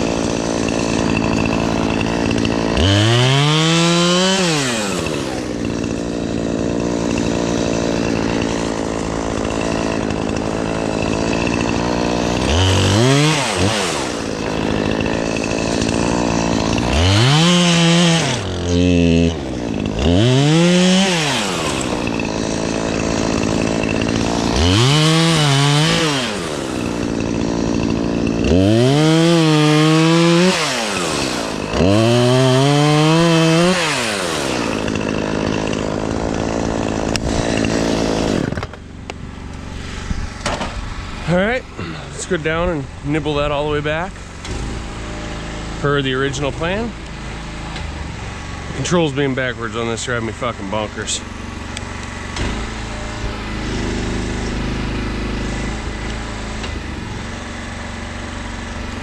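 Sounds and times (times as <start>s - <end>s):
chainsaw running and revving: 0.0s - 59.0s.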